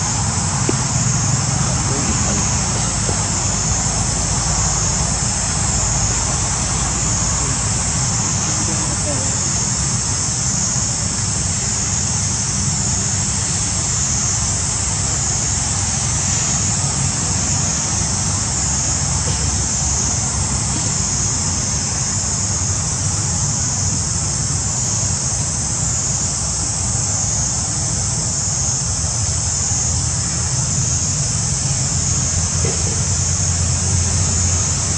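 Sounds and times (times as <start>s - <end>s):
high-pitched insect drone: 0.0s - 34.9s.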